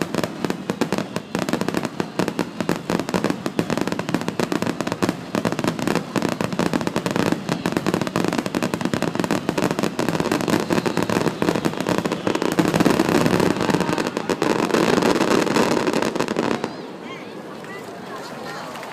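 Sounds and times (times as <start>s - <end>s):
fireworks bursting: 0.0s - 17.4s.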